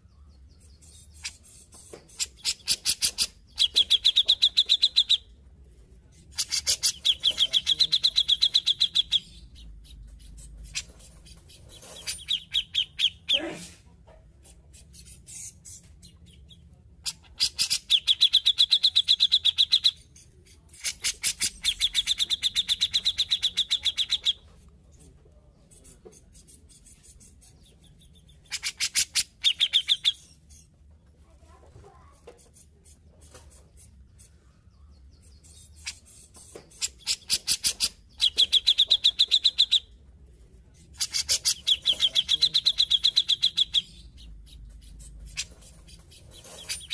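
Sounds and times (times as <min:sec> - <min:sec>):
bulbul chattering song: 0:00.0 - 0:05.4, 0:06.2 - 0:13.5, 0:14.5 - 0:24.5, 0:25.7 - 0:30.8, 0:32.5 - 0:40.0, 0:40.8 - 0:46.9.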